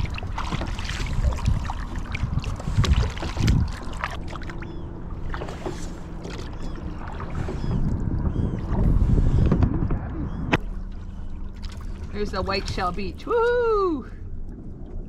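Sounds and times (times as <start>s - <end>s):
paddle splashing through water: 0.0s - 13.2s
wind rumble on microphone: 0.0s - 15.0s.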